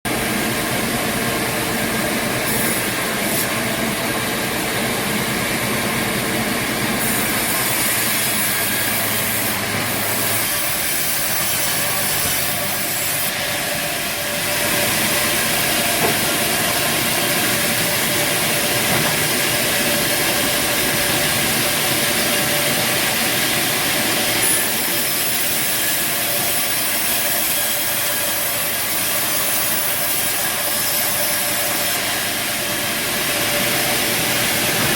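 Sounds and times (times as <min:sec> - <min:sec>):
bandsaw sawmill running: 0:00.1 - 0:34.9.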